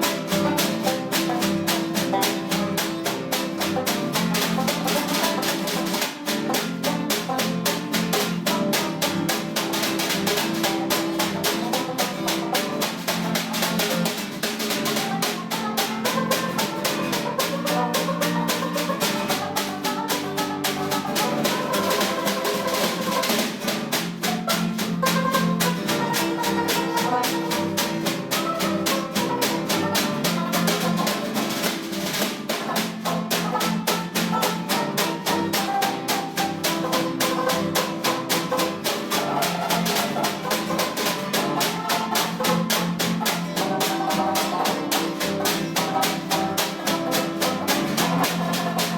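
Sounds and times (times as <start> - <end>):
jazz music: 0.0 - 48.9
rapid snare drum strokes: 0.0 - 48.9.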